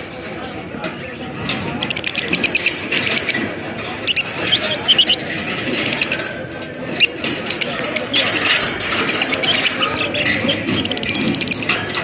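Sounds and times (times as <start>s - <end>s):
lovebirds chattering: 1.2s - 12.0s.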